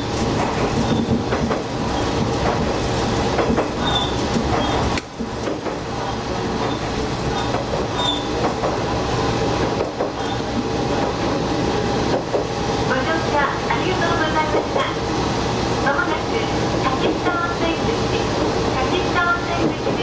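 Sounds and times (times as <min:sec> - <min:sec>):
diesel railcar engine drone: 0:00.0 - 0:20.0.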